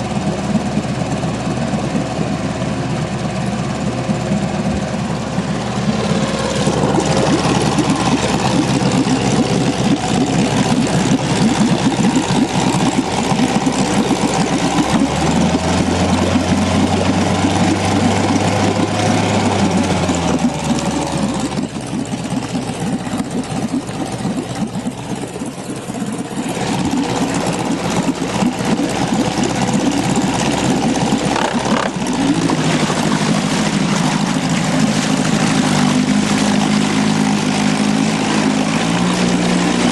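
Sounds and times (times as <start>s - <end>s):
boat motor running: 0.0s - 39.9s.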